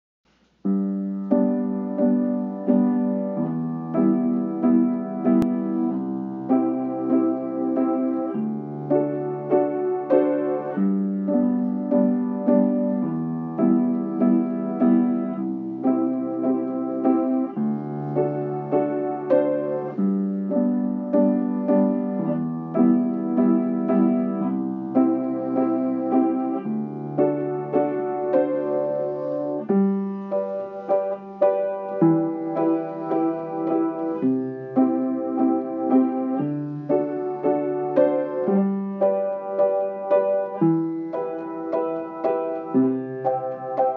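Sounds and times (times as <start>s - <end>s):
slow solo piano: 0.3s - 43.9s.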